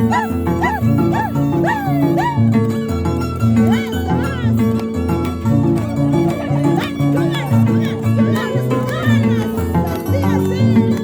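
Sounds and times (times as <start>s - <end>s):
plucked harp music: 0.0s - 11.0s.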